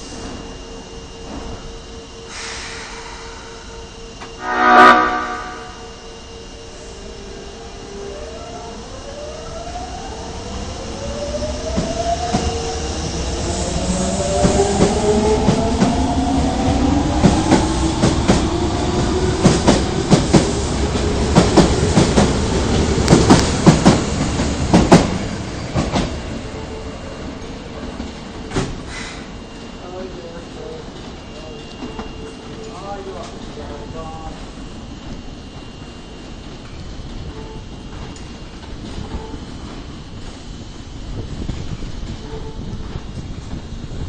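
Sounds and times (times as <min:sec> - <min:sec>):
subway train motor whine: 0:00.0 - 0:44.0.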